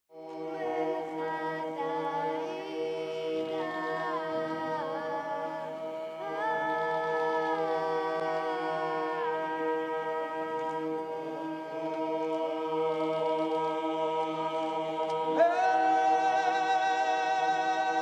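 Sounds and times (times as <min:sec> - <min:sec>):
voices singing held notes: 0:00.2 - 0:18.0.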